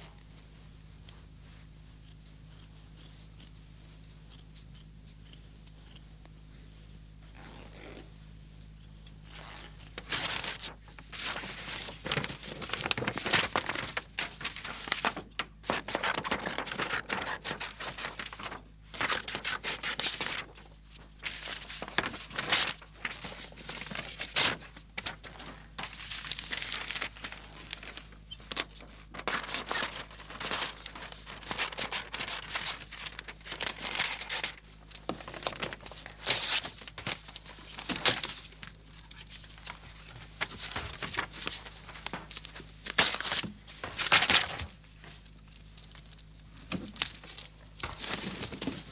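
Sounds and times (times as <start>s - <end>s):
paper tearing and crumpling: 9.4s - 48.9s.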